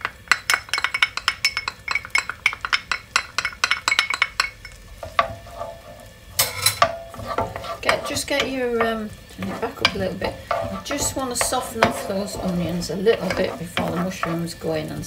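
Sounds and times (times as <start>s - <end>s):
utensil clinking against a pan: 0.0s - 15.0s.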